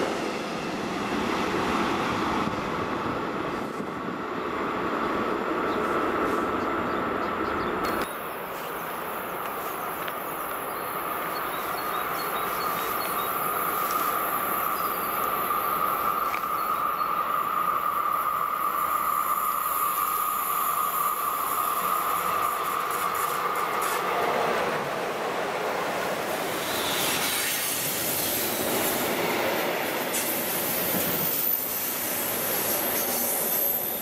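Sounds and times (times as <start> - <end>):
freight train running noise: 0.0 - 34.0
locomotive whine: 0.0 - 34.0.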